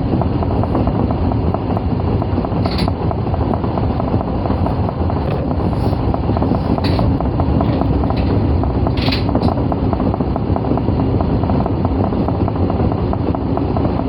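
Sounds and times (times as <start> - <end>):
subway train wheels rumbling on rail: 0.0 - 14.0.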